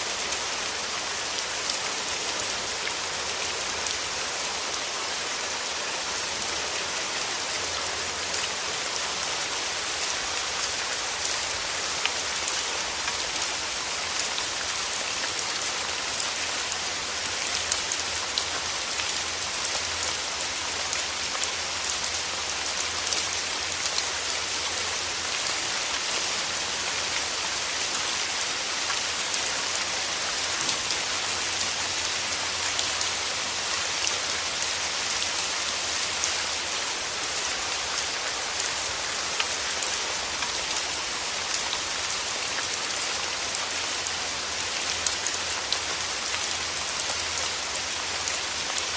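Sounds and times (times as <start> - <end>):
raindrops ticking on surfaces: 0.0 - 48.9
steady rain: 0.0 - 48.9.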